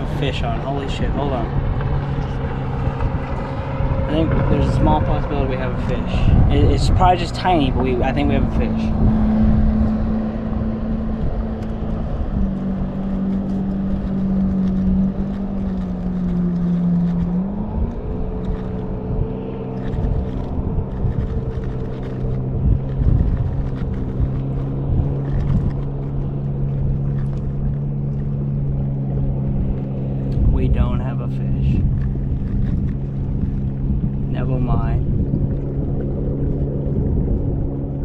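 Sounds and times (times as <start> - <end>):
watercraft engine running: 0.0 - 38.0
wind and water rumble: 0.0 - 38.0.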